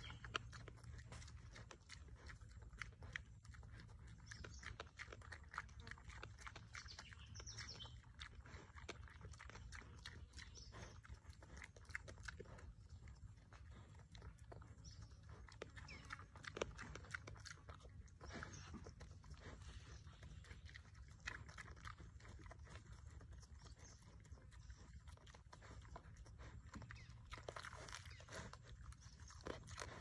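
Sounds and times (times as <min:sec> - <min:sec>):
pig crunching grain: 0:00.0 - 0:30.0.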